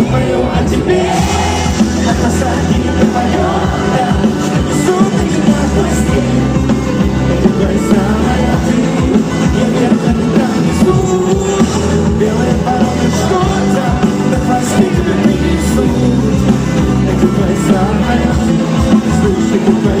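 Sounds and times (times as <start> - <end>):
live rock band: 0.0 - 20.0.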